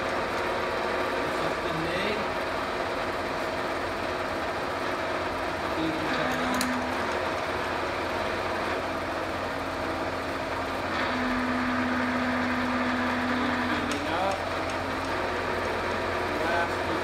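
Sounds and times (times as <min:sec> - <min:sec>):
milling machine motor and gear hum: 0:00.0 - 0:17.0.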